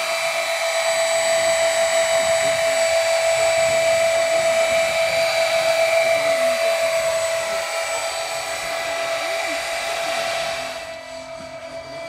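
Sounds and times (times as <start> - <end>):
model aircraft rotors whining: 0.0 - 12.0.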